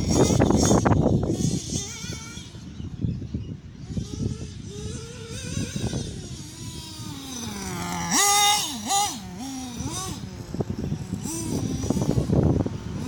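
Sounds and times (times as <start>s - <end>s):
nitro engine revving: 0.0s - 13.0s.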